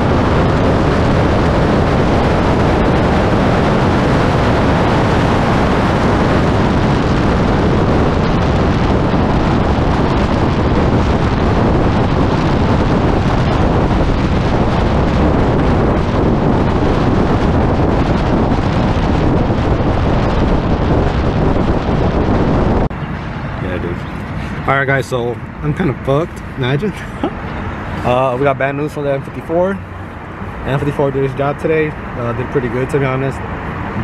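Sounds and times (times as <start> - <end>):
car road noise: 0.0 - 34.0
wind rushing over microphone: 0.0 - 34.0.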